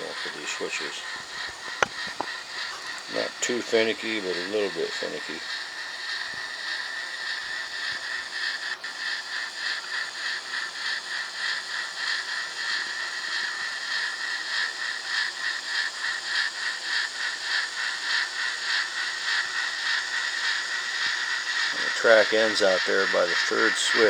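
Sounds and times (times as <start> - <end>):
model train steam chuffs: 0.0 - 24.0
steady hiss from speaker: 0.0 - 24.0.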